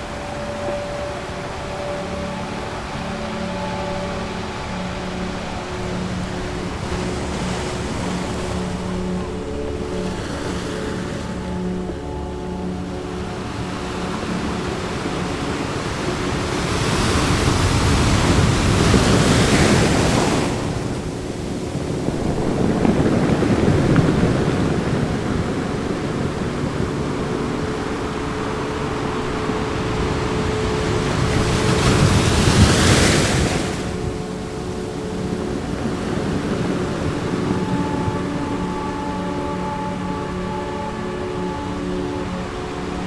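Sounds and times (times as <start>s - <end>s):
ocean waves washing in: 0.0s - 43.0s.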